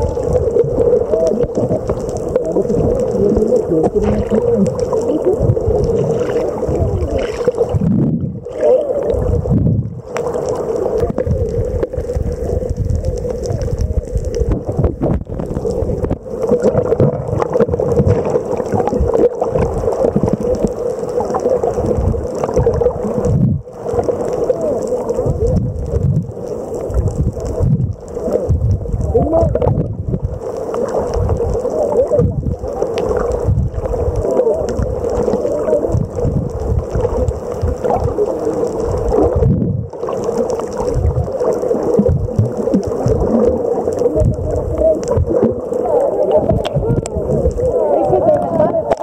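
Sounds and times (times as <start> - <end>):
water gurgling and rushing: 0.0 - 49.0.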